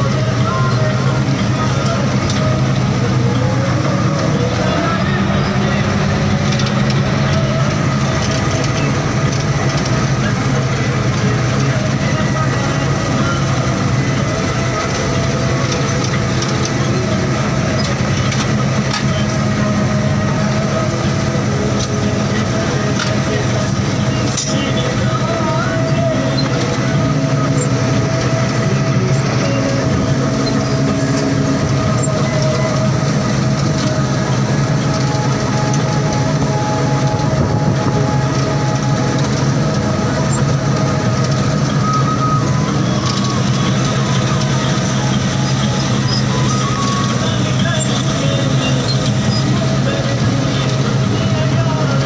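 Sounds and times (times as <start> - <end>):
combine harvester engine drone: 0.0 - 52.0
high mechanical whine: 0.0 - 52.0.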